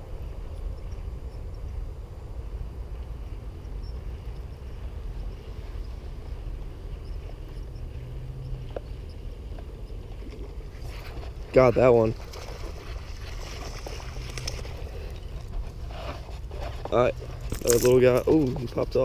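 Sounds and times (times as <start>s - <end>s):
low handling rumble: 0.0s - 19.0s.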